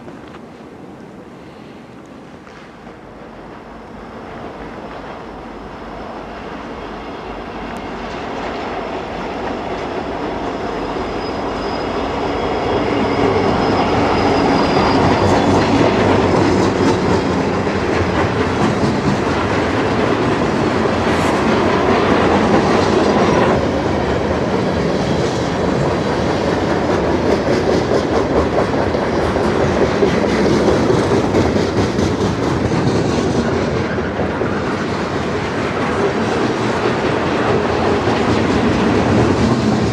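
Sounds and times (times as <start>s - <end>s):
diesel locomotive engines running: 0.0s - 39.9s.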